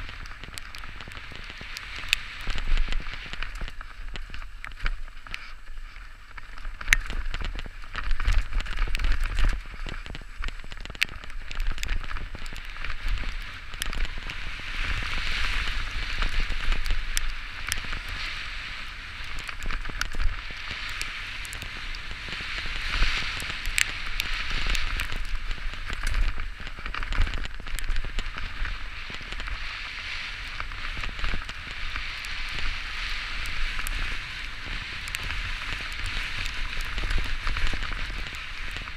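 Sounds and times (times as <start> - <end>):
bike clicks and rattles: 0.0 - 38.9
bike tyres hissing on wet ground: 0.0 - 38.9.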